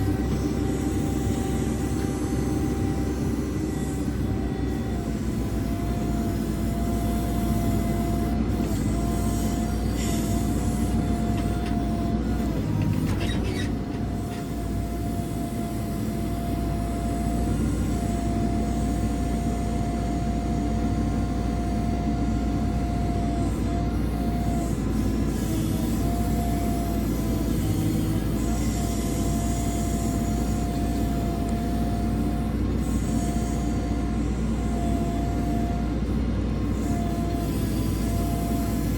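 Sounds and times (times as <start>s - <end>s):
diesel engine rumble: 0.0s - 38.9s.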